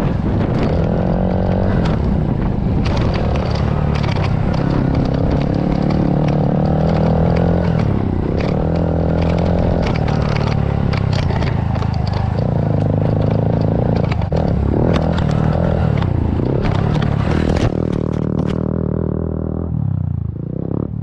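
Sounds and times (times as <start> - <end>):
bike rattling over rough ground: 0.0 - 19.1
pit bike engine revving: 0.0 - 19.7.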